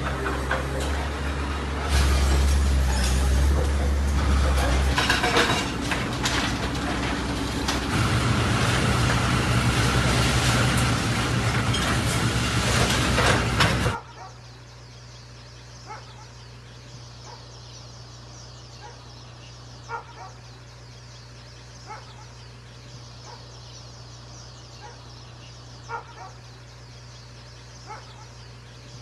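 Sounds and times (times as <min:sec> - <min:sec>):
steady low hum: 0:04.1 - 0:29.0.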